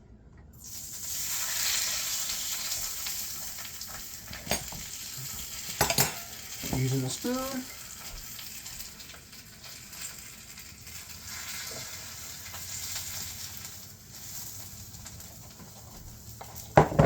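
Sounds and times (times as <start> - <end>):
tortilla sizzling in oil: 0.6 - 17.0.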